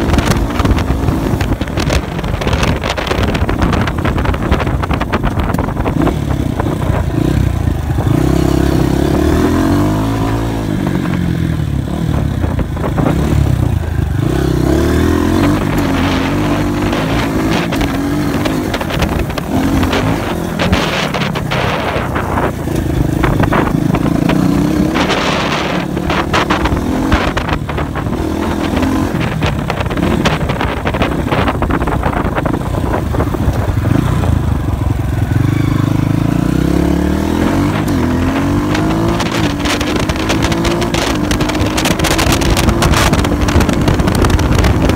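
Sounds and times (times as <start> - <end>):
wind noise on microphone: 0.0 - 44.9
dirt bike engine revving: 5.7 - 44.9.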